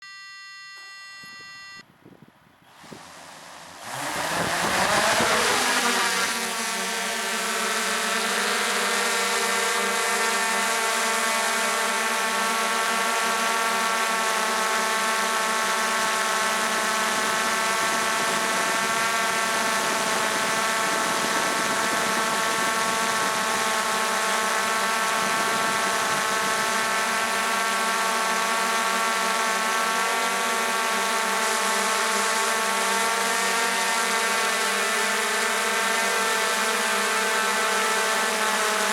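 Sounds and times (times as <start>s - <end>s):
propeller engine droning: 2.6s - 38.9s.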